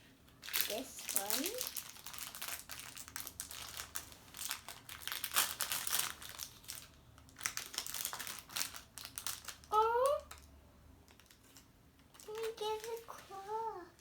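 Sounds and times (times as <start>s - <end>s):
wrapper rustling and crackling: 0.3s - 10.5s, 11.1s - 14.0s.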